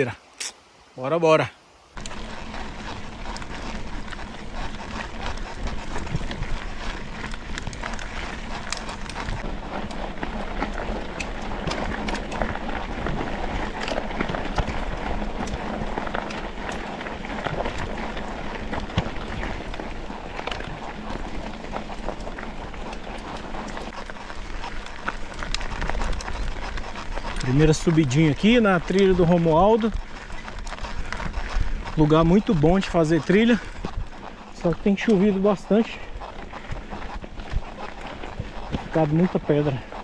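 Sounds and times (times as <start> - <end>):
wind and tyre noise: 0.0 - 40.0
bike knocking and rattling: 2.0 - 40.0.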